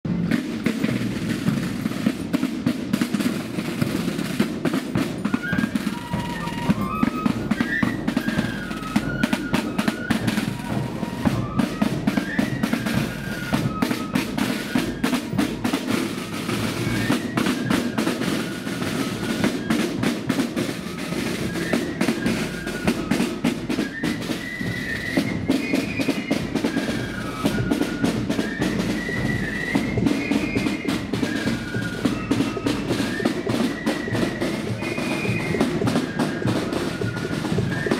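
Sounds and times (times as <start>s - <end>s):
side drums rolling: 0.0s - 37.9s
flutes playing a marching tune: 0.1s - 37.9s.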